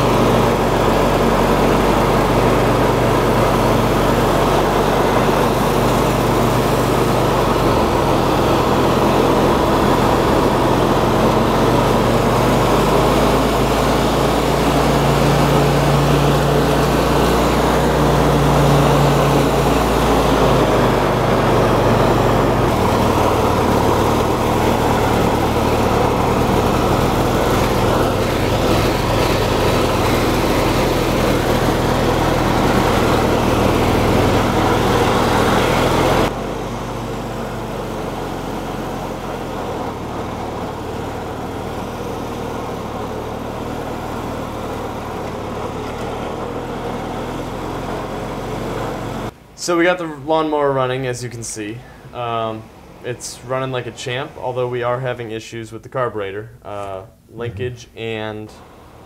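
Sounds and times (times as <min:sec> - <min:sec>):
riding lawn mower engine running: 0:00.0 - 0:55.4, 0:56.8 - 0:59.0.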